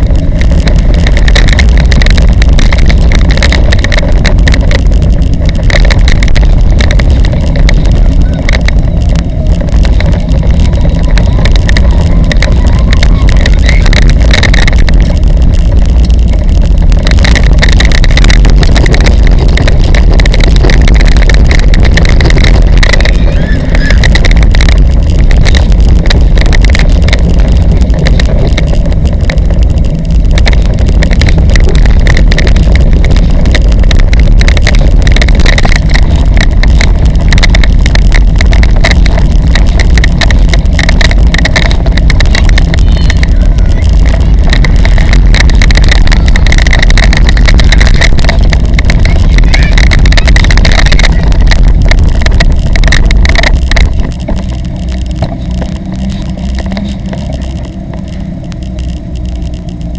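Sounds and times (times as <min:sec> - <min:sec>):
bicycle road rumble: 0:00.0 - 0:59.9
wind buffeting microphone: 0:00.0 - 0:59.9.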